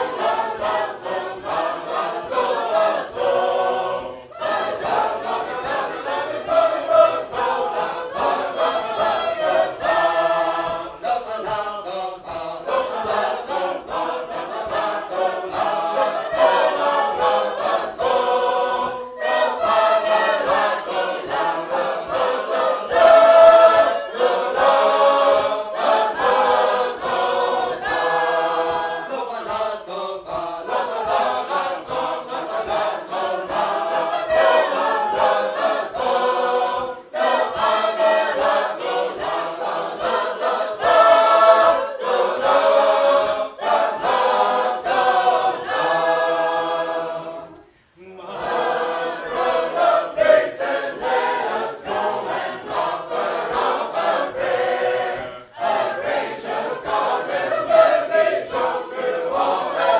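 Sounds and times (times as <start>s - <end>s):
choir singing unaccompanied harmony: 0.0s - 59.9s.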